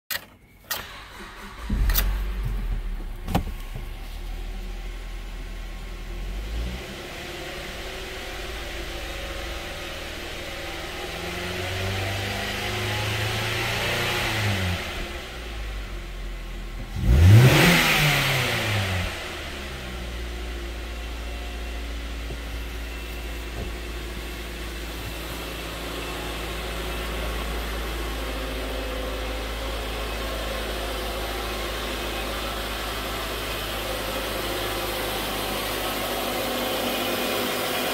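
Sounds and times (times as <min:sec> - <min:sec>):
car engine idling and revving: 0:00.7 - 0:37.9.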